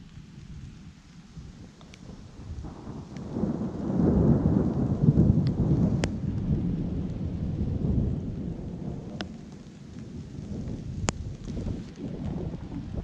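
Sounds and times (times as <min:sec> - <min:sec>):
low thunder rumbling: 0:00.0 - 0:13.0.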